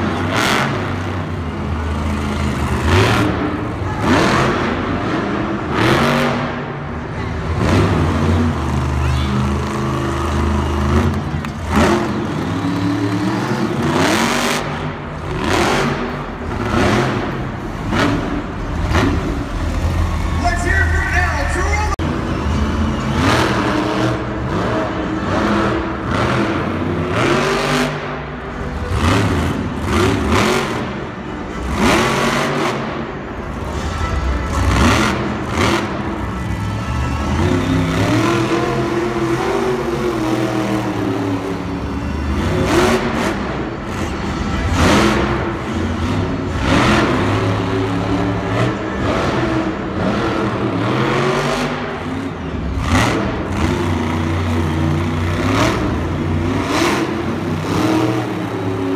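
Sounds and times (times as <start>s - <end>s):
truck engines revving: 0.0s - 58.9s.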